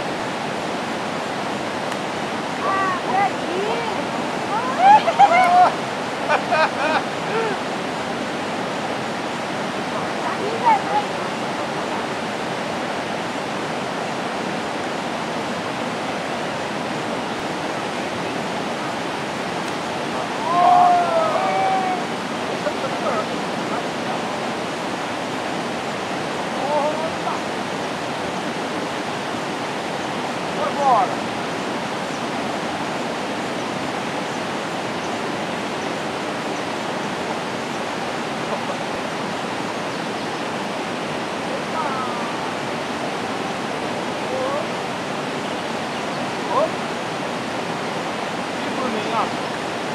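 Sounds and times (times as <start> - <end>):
river water rushing over rapids: 0.0 - 49.9.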